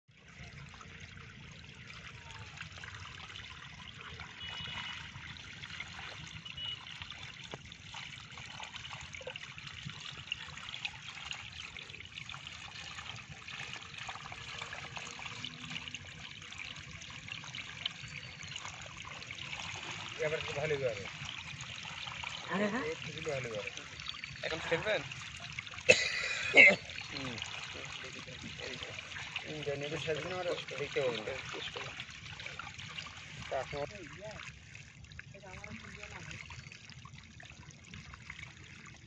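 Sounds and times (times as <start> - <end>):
water trickling down a channel: 0.1 - 39.0.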